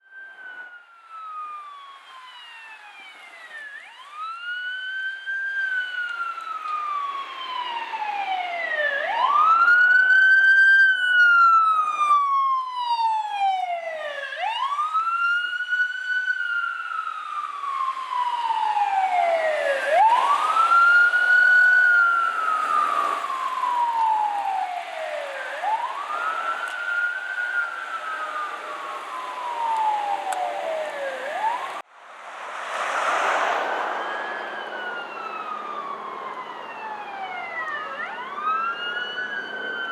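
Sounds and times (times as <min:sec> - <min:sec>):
siren wailing: 0:00.0 - 0:31.9, 0:32.7 - 0:39.9
higher-pitched siren: 0:00.0 - 0:39.9.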